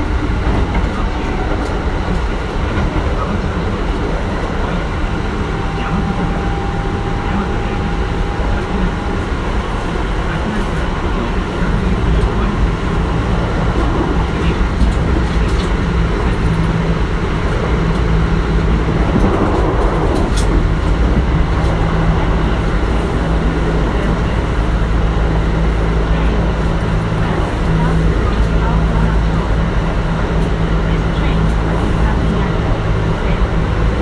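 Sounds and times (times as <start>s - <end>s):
steady low hum: 0.0s - 34.0s
train wheels rumbling on rail: 0.0s - 34.0s.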